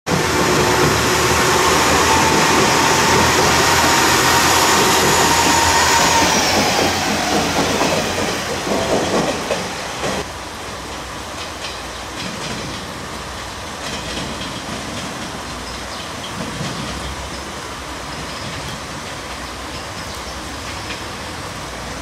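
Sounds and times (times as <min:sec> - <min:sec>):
diesel railcar running: 0:00.1 - 0:22.0.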